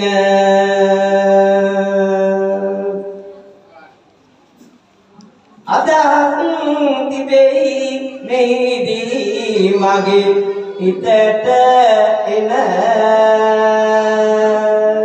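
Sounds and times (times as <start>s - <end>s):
man chanting into a microphone: 0.0s - 3.6s, 5.6s - 15.0s.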